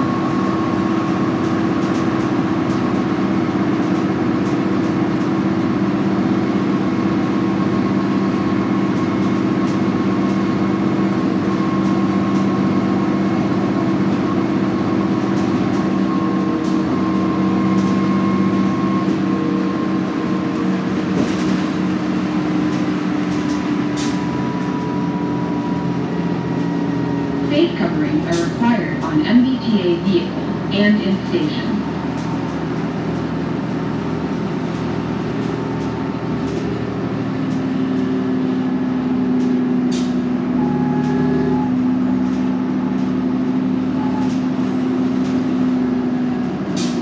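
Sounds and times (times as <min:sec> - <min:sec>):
road and tyre noise: 0:00.0 - 0:30.8, 0:31.4 - 0:47.0
bus engine drone: 0:00.0 - 0:47.0.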